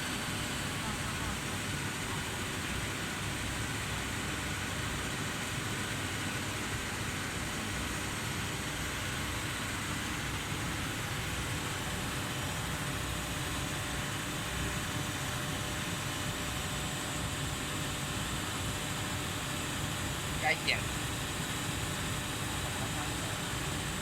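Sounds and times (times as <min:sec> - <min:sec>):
running machinery hum and hiss: 0:00.0 - 0:24.0.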